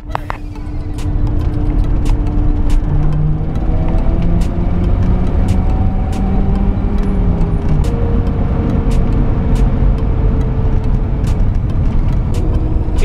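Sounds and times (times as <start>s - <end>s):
car engine note: 0.0s - 13.0s
road rumble: 0.0s - 13.0s.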